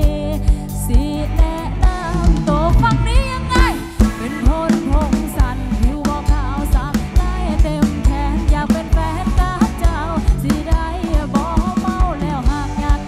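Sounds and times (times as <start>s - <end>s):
drum kit: 0.0s - 13.0s
keyboard: 0.0s - 13.0s
woman singing: 0.0s - 13.0s.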